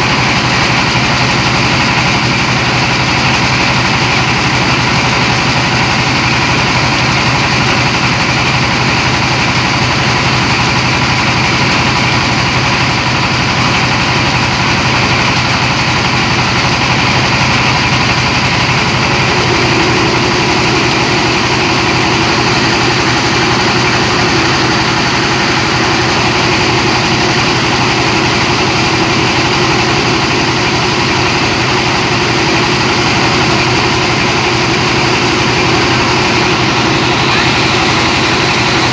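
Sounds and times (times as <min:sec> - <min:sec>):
rice milling machine running: 0:00.0 - 0:38.9
steady machine tone: 0:00.0 - 0:38.9.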